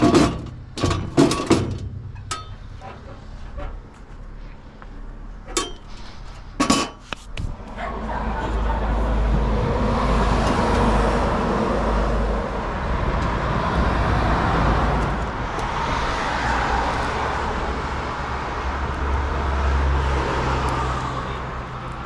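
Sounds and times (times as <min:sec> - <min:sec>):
cars passing: 0:00.0 - 0:22.0
low traffic rumble: 0:00.0 - 0:22.0.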